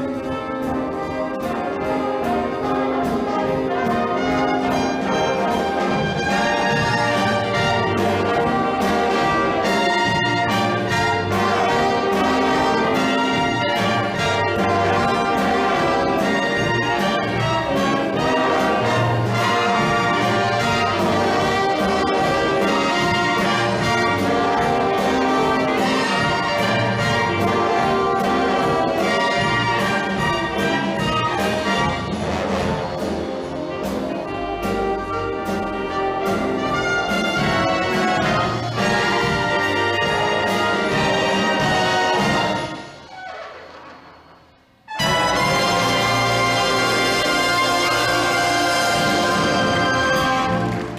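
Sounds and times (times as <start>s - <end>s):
big band swing music: 0.0s - 50.9s.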